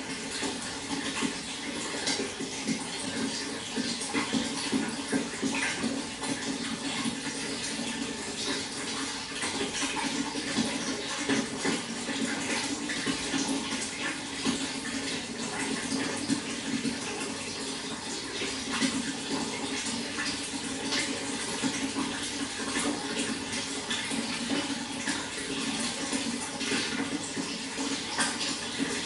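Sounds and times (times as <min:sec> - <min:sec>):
running water splashing: 0:00.0 - 0:29.0.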